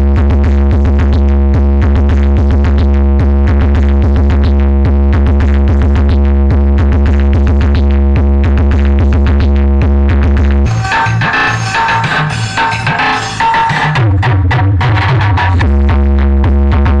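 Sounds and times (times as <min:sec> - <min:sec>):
loud music with deep bass: 0:00.0 - 0:17.0.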